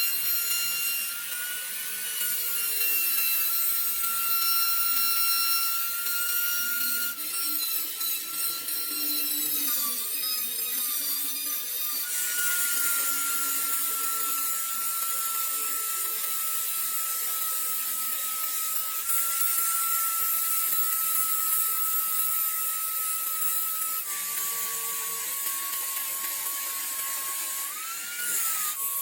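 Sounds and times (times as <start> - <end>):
power tool high whine: 0.0 - 29.0.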